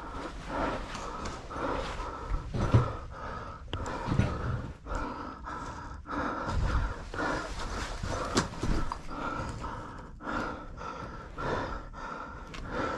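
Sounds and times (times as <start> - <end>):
person breathing heavily: 0.0 - 12.9.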